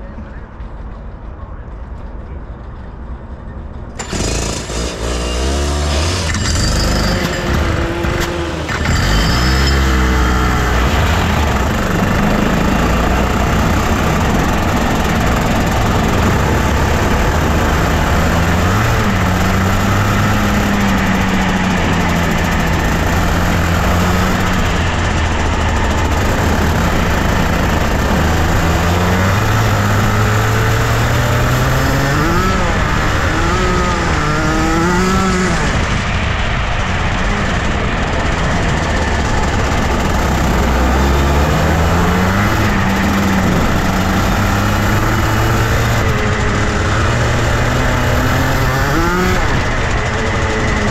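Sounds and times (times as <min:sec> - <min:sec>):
kart two-stroke engine running: 0:03.8 - 0:50.9.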